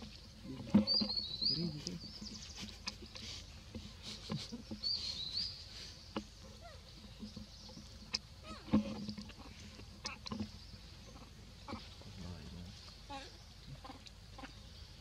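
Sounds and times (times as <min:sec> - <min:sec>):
bird chirping: 0:00.0 - 0:03.2, 0:04.2 - 0:15.0.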